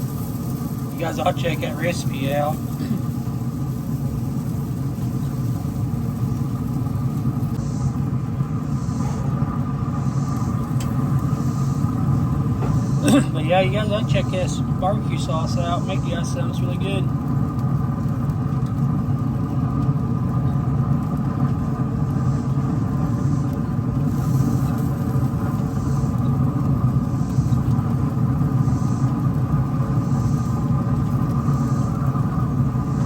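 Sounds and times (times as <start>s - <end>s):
machine rumble with hum: 0.0s - 33.0s.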